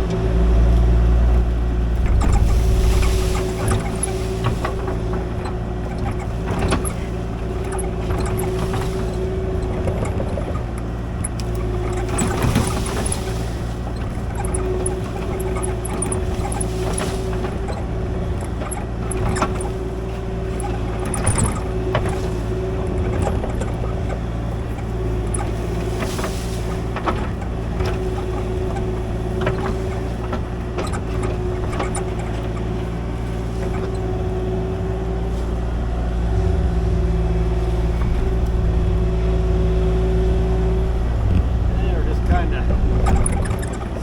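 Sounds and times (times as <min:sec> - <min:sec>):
excavator diesel engine whining: 0:00.0 - 0:44.0.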